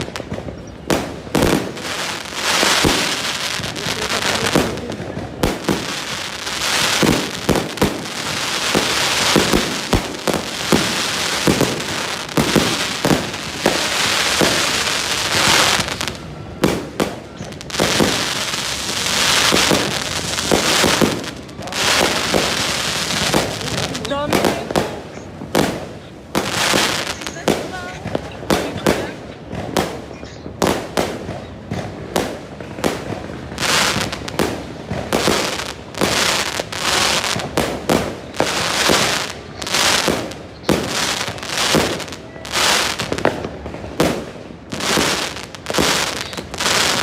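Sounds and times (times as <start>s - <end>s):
dense hissing of firework bursts: 0.0s - 47.0s
firework reports: 0.0s - 47.0s.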